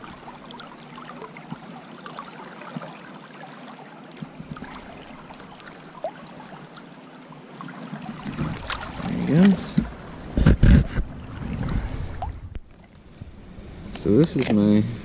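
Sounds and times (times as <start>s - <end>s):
river flowing over riffles: 0.0s - 12.2s.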